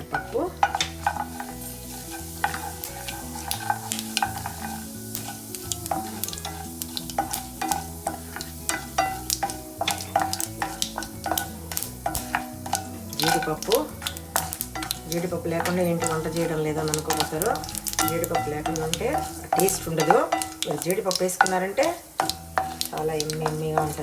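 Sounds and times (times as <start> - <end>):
frying in hot oil: 0.0 - 24.0
spoon scraping a pan: 0.0 - 24.0.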